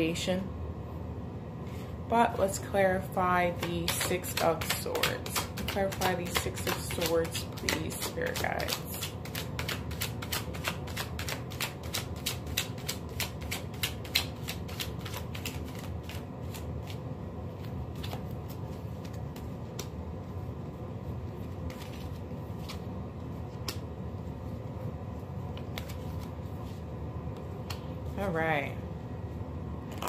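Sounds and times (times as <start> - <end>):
cards being shuffled by hand: 3.5 - 28.0.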